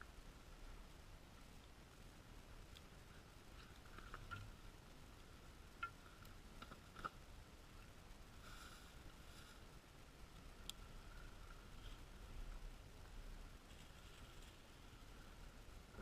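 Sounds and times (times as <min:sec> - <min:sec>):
faint clicks and ticks: 0:00.0 - 0:16.0.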